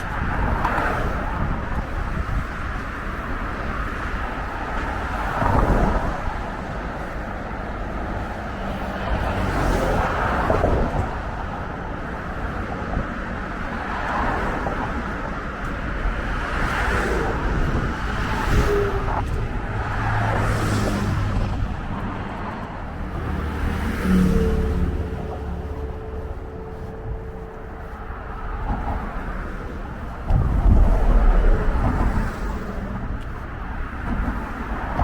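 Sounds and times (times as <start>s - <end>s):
cars passing: 0.0s - 35.0s
traffic rumble: 0.0s - 35.0s.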